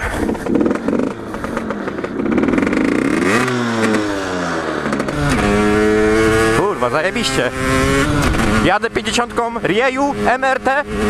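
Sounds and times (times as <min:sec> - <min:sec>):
two-stroke motorbike engine revving: 0:00.0 - 0:11.0.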